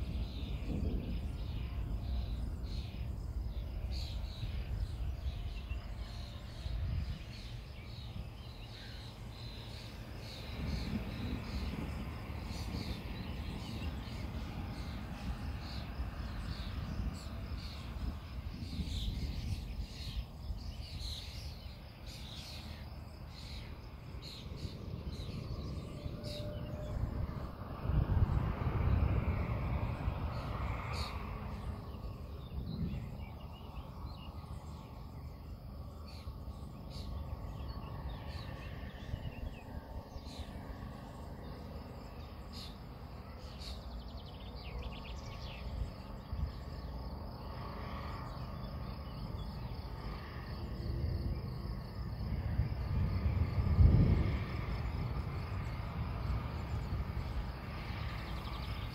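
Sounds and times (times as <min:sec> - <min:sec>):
wind rumbling on microphone: 0:00.0 - 0:58.9.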